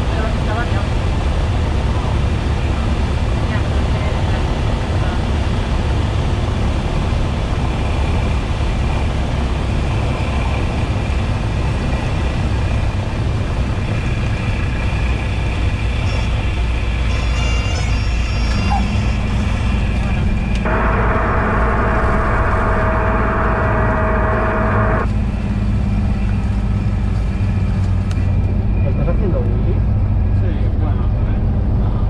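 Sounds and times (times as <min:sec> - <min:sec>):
propeller plane engine drone: 0:00.0 - 0:32.0.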